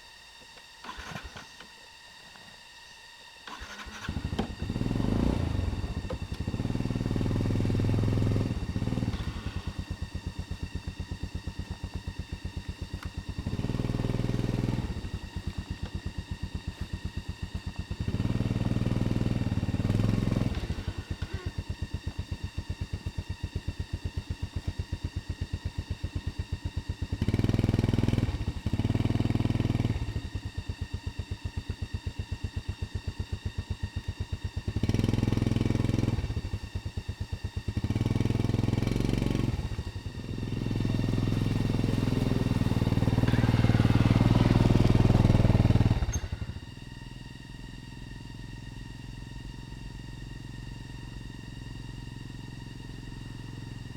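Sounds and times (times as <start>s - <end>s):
motorcycle engine revving: 0.0s - 2.7s, 3.3s - 53.9s.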